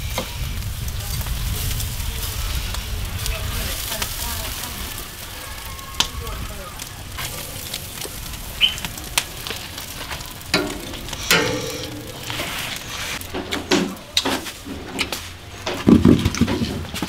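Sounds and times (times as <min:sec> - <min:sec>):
meat sizzling on a grill: 0:00.0 - 0:16.4.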